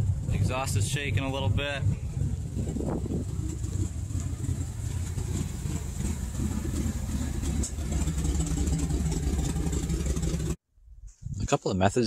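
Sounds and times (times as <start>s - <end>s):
engine idling rough: 0.0s - 10.6s.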